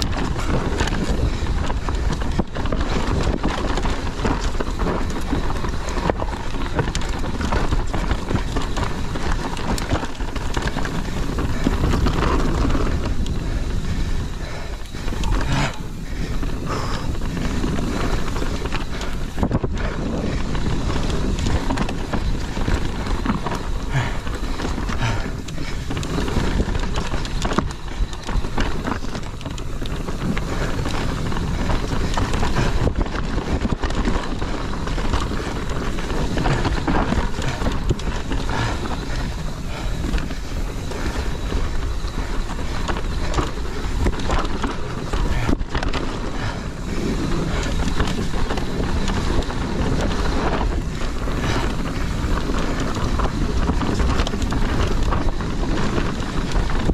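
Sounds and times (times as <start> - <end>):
bike knocking and rattling: 0.0 - 56.9
tyre noise on dirt: 0.0 - 56.9
wind rush on microphone: 0.0 - 56.9.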